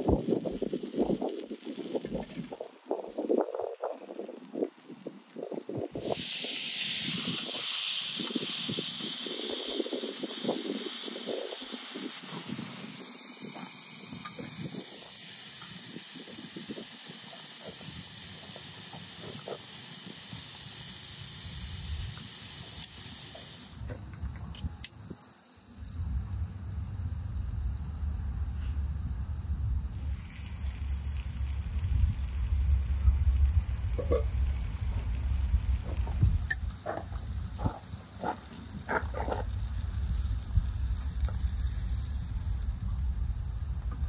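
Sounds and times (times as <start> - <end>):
food sizzling in a pan: 0.0 - 23.9, 25.0 - 44.0.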